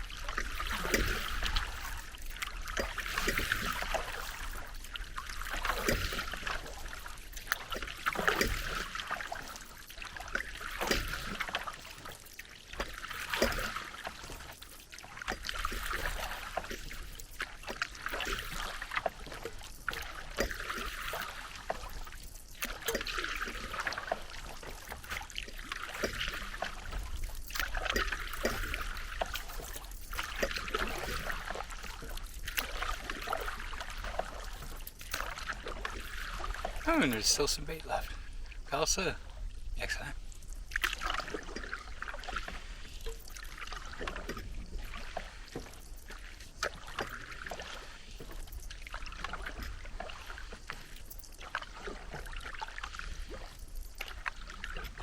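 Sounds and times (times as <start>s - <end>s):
paddle strokes splashing water: 0.0s - 55.0s
water trickling off paddle: 0.0s - 55.0s.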